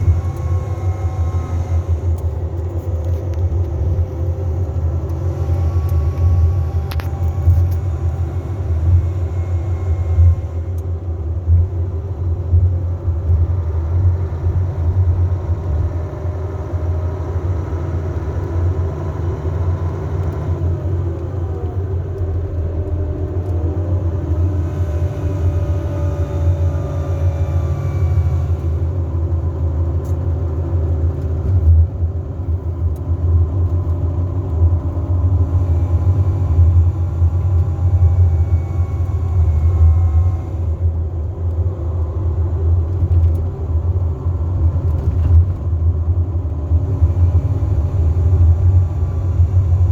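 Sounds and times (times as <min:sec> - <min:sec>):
coach engine drone: 0:00.0 - 0:49.9.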